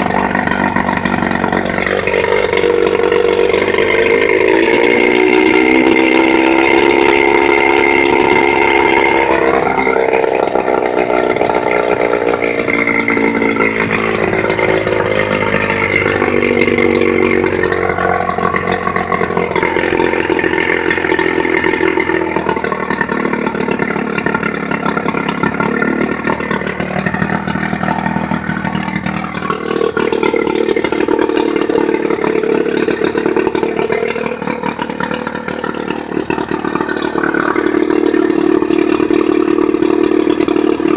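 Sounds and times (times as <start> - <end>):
outboard motor revving: 0.0 - 40.9.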